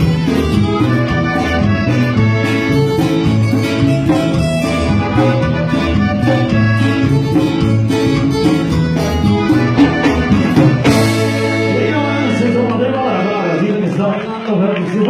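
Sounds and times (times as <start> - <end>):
latin band music with singing: 0.0 - 15.0.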